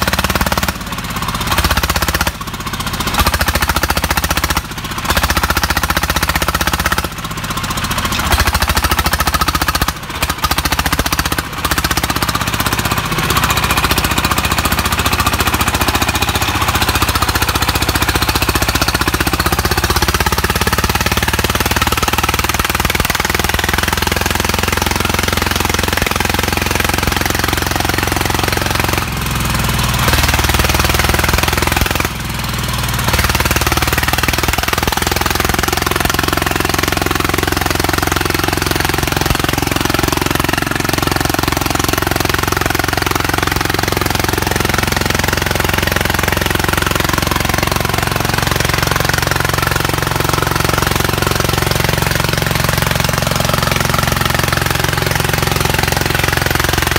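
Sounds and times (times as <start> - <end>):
diesel engine pounding: 0.0 - 56.9.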